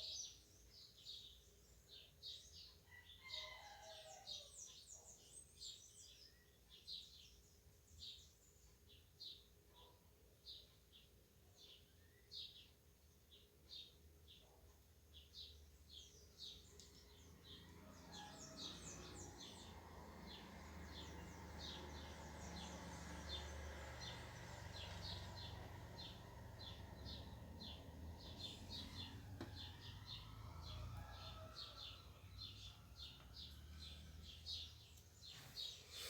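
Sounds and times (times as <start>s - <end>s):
low steady background noise: 0.0s - 36.0s
small birds chirping: 0.0s - 36.0s.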